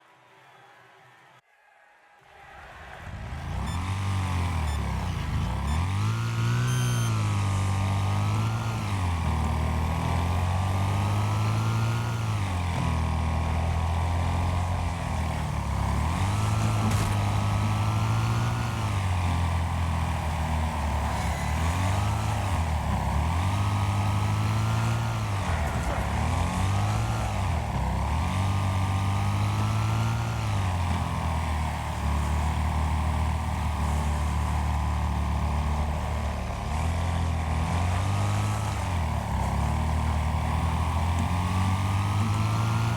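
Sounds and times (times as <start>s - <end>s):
racing lawn mower engines revving: 3.3s - 42.9s.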